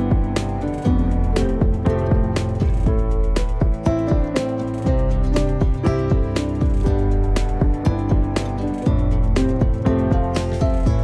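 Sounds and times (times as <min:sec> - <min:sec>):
plucked guitar-like notes: 0:00.0 - 0:11.0
steady beat: 0:00.0 - 0:11.0.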